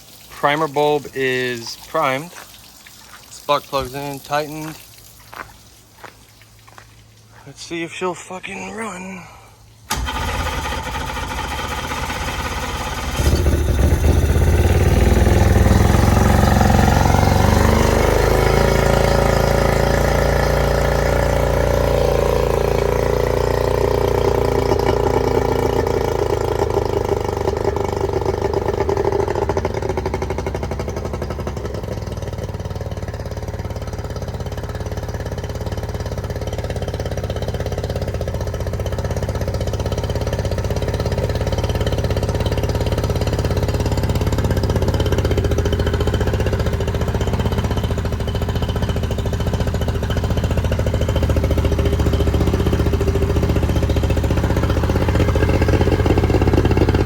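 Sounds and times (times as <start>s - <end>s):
outboard motor running: 7.4s - 57.0s.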